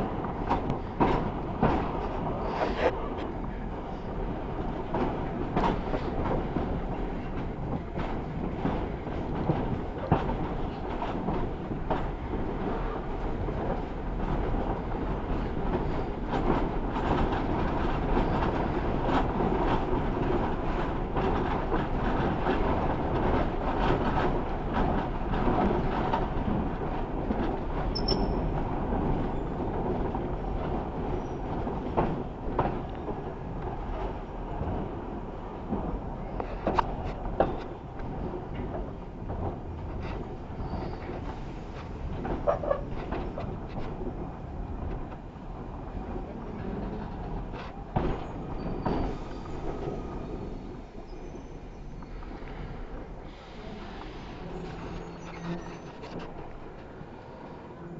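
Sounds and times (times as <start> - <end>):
train carriages rumbling on track: 0.0 - 57.9.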